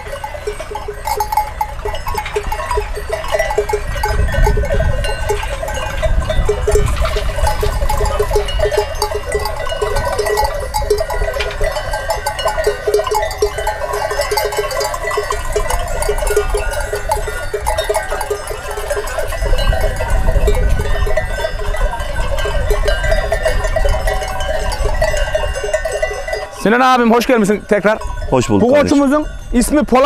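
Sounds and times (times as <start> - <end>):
livestock bells clanking: 0.0 - 30.0.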